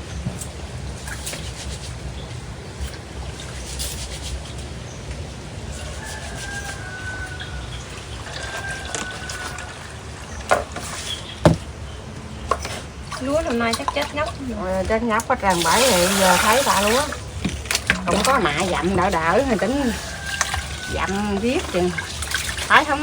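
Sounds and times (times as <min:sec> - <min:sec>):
water trickling: 0:02.2 - 0:23.0.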